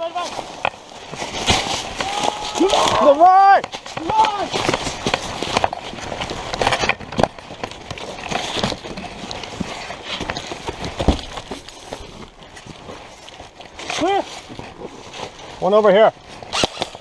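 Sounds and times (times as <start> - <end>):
footsteps running over rough ground: 0.0 - 16.5.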